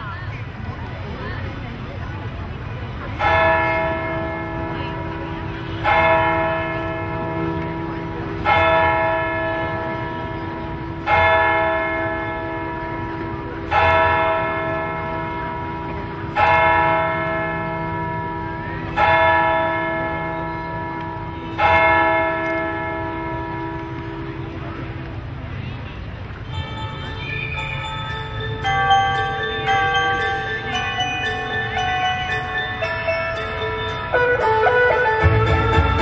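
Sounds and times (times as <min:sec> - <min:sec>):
church bell tolling: 0:03.2 - 0:24.7, 0:26.5 - 0:36.0.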